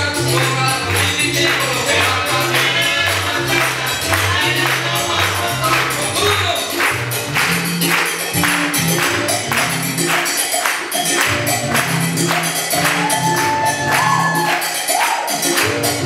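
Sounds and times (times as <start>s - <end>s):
salsa dance music: 0.0s - 16.0s.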